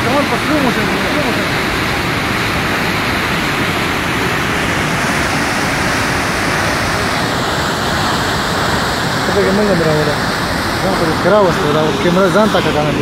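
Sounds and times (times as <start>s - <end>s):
whitewater rushing over boulders: 0.0s - 13.0s.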